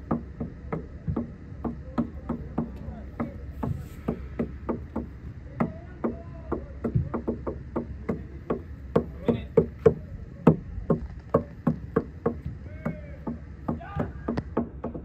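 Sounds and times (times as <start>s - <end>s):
rapid sharp knocks: 0.0s - 15.0s.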